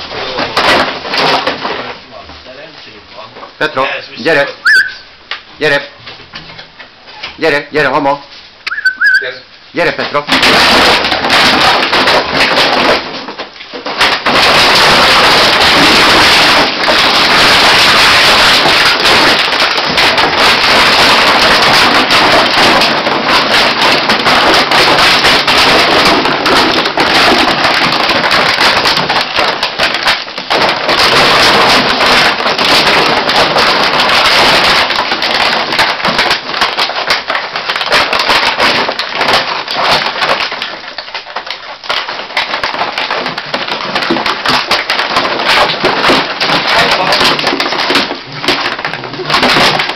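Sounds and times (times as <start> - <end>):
plastic bottles crackling and crunching: 0.0 - 49.9.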